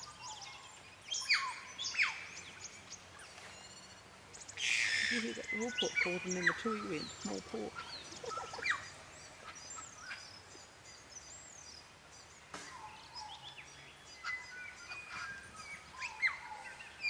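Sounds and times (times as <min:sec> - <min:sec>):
birds whistling and chirping: 0:00.0 - 0:17.0.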